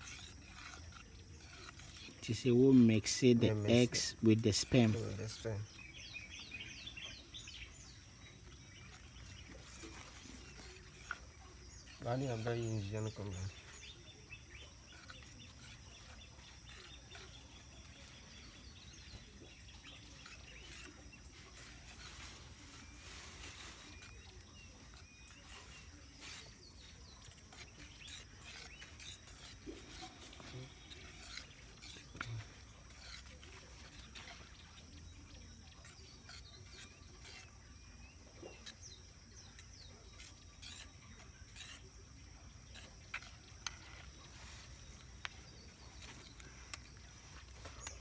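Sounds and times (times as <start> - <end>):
bird chirps: 0.0 - 48.0
faint outdoor background noise: 0.0 - 48.0
insect drone: 0.0 - 48.0
plastic spoon scraping bowl: 0.0 - 48.0.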